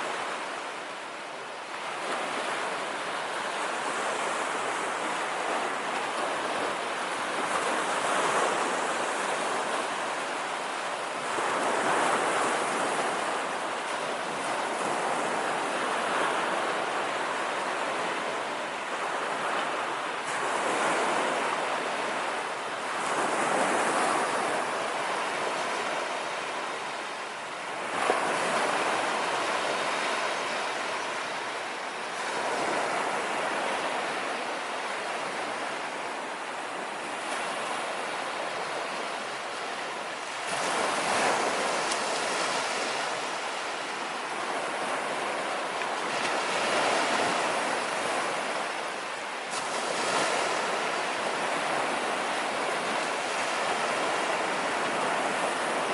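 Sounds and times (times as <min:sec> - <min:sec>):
sea waves breaking on beach: 0:00.0 - 0:55.9.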